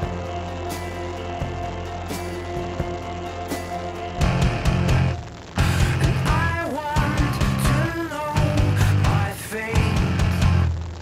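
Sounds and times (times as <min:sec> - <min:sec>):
rock song with drums: 0:00.0 - 0:10.8.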